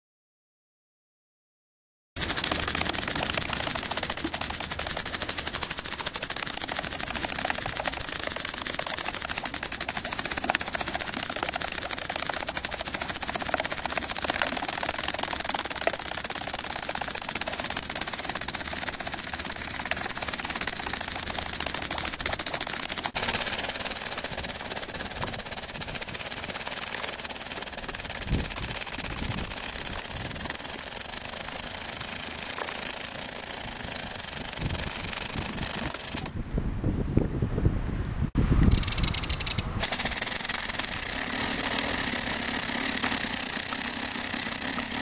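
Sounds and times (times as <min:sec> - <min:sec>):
gatling gun rapid firing: 0:02.2 - 0:36.3, 0:38.8 - 0:45.0.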